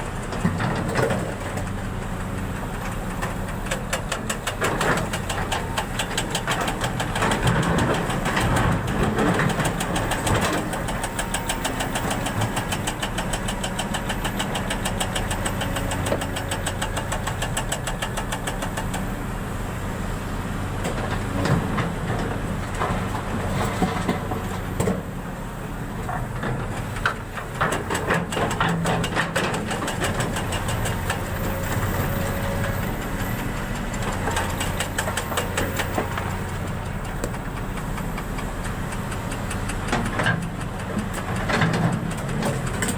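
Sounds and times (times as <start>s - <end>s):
engine running with rapid ticking: 0.0s - 19.8s, 20.6s - 42.9s.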